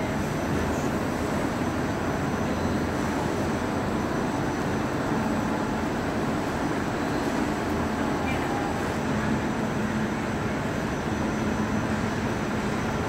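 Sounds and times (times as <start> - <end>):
industrial machinery drone: 0.0 - 13.0.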